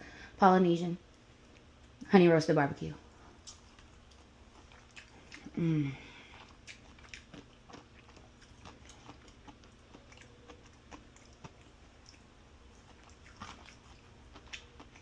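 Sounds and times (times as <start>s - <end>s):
faint chewing with mouth clicks: 1.1s - 2.0s, 3.2s - 15.0s.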